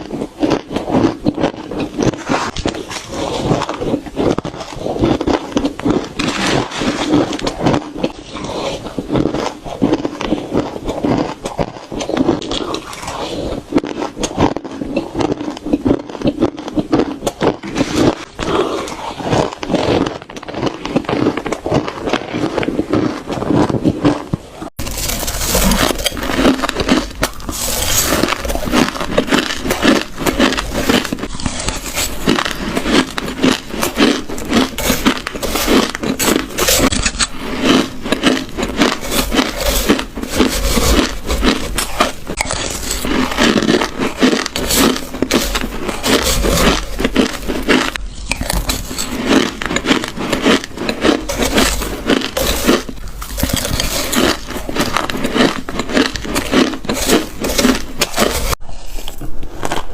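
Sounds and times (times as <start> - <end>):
chewing crunchy shaved ice: 0.0 - 59.9.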